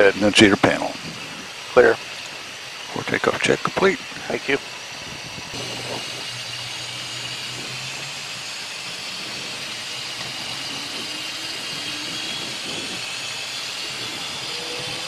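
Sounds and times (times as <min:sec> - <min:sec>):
jet engines spooling up: 0:00.0 - 0:15.0.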